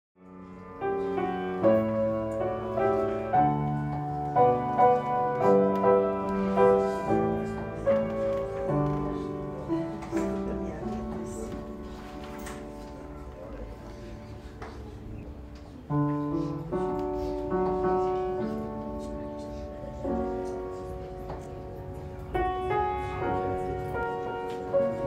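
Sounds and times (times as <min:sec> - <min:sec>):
piano music: 0:00.2 - 0:25.0.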